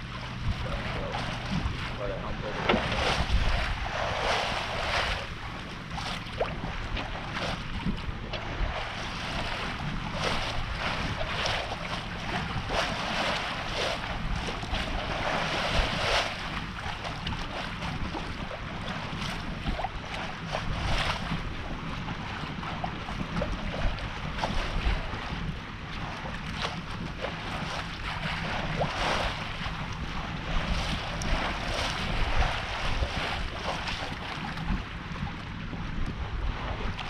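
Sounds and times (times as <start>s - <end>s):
water rushing along hull: 0.0s - 37.0s
wind rumbling on microphone: 0.0s - 37.0s.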